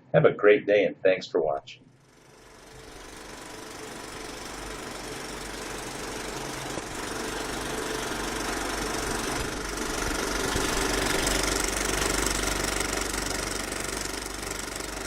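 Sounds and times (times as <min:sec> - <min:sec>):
stepper motors buzzing: 0:02.0 - 0:15.0.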